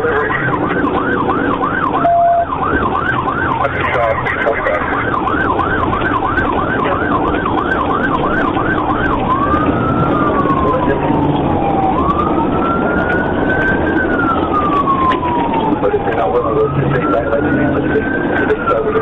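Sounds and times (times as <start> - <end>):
engine and road noise: 0.0 - 19.0
police siren yelping: 0.0 - 19.0.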